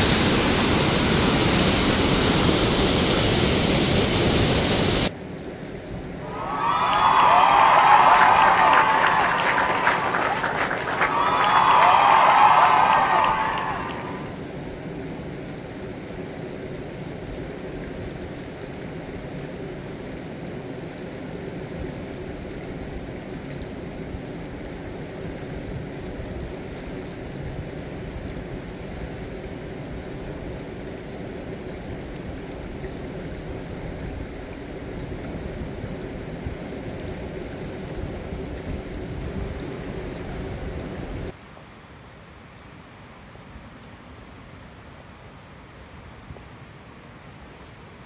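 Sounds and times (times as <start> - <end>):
rushing water roar: 0.0 - 48.0.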